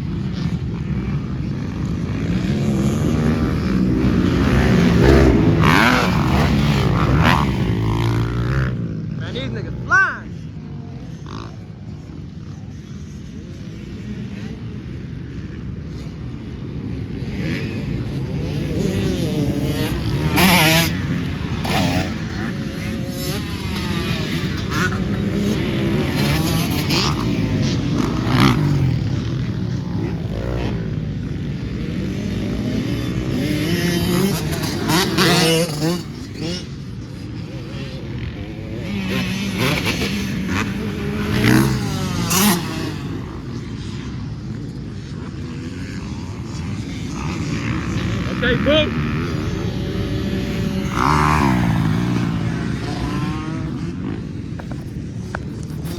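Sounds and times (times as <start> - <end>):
dirt bike engines revving: 0.0 - 55.9
dirt bike passing close: 0.0 - 55.9.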